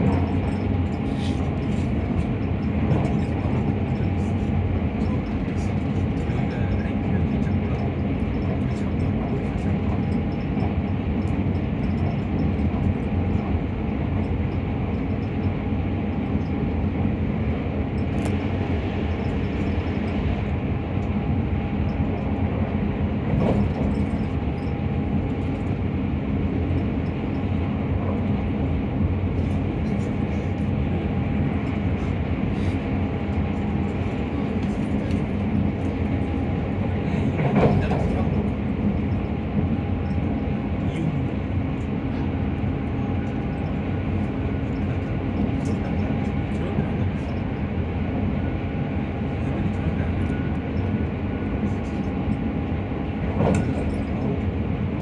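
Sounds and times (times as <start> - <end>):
train rumbling at speed: 0.0 - 55.0.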